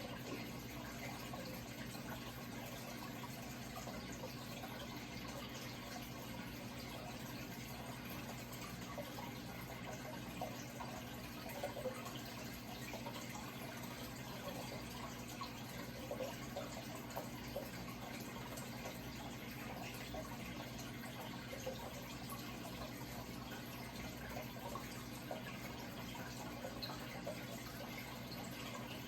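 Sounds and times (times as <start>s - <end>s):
water trickling and gurgling: 0.0s - 29.0s.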